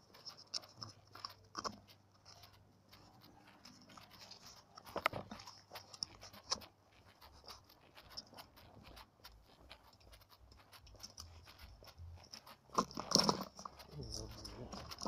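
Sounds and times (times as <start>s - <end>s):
phone rubbing against clothing: 0.0s - 15.0s.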